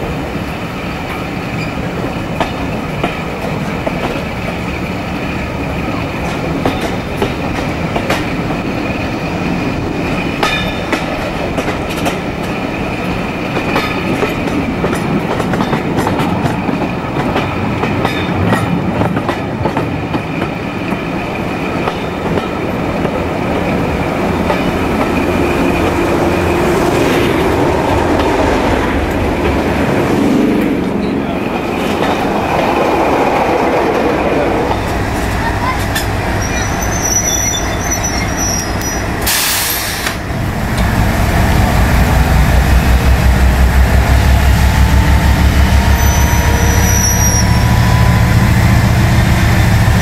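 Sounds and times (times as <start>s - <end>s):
diesel locomotive passing: 0.0s - 50.0s.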